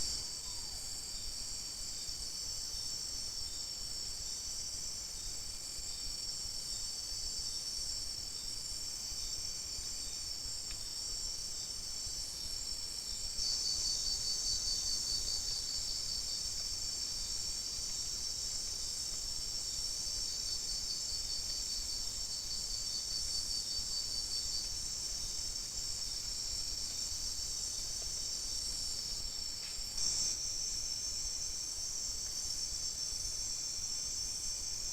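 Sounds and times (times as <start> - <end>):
insects trilling: 0.0 - 3.7, 4.4 - 34.9.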